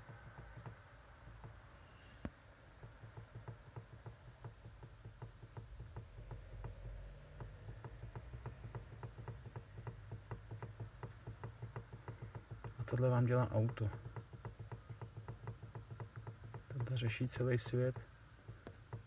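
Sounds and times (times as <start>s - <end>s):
steering column knocking: 0.0s - 1.7s, 2.8s - 19.0s.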